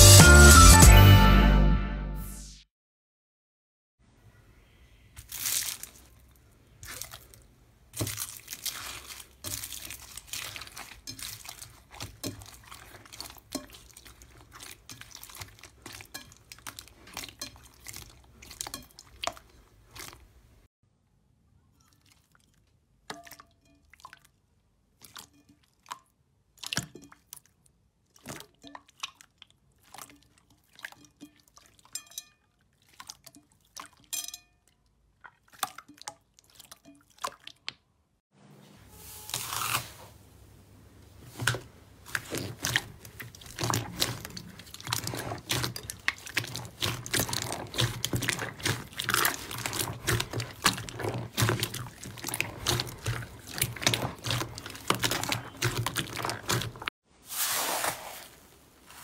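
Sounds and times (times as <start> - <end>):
hands squelching slime: 5.2 - 20.6, 21.8 - 32.0, 32.6 - 34.1, 35.1 - 37.9, 41.1 - 59.0.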